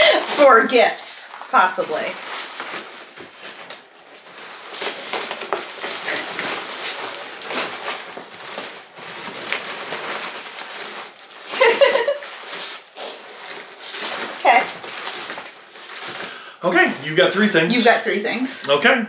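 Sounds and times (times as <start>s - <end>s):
packaging rustling and crinkling: 0.0s - 18.2s.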